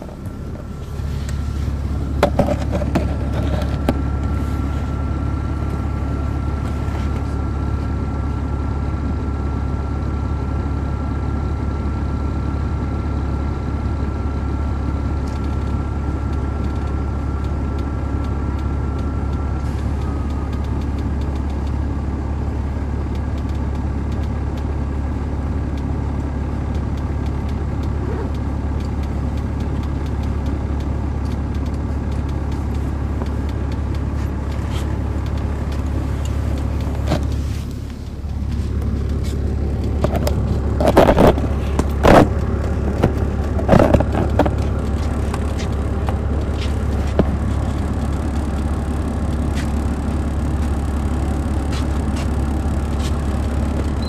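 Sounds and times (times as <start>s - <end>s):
diesel engine idling: 0.0s - 54.0s
thin steady whine: 0.0s - 54.0s.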